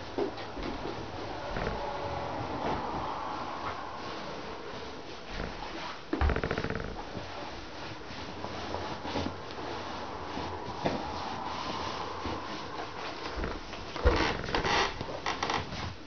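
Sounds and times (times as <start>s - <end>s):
bedding rustling: 0.0s - 16.0s.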